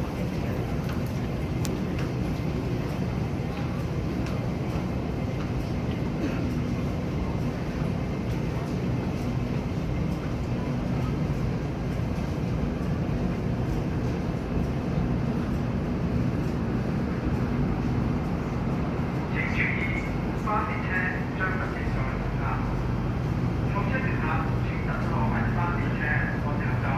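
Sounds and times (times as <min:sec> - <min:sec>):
constant low hum: 0:00.0 - 0:26.9
train low rumble: 0:00.0 - 0:26.9.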